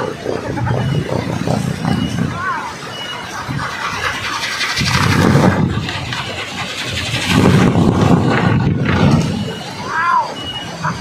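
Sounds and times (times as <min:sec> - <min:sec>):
windmill blades whirring: 0:00.0 - 0:11.0.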